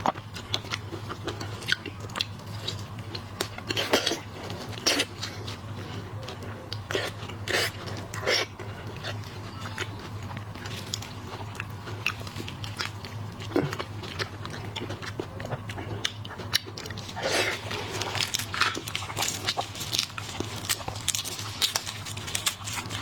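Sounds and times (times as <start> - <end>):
wet chewing and crunching: 0.0 - 23.0.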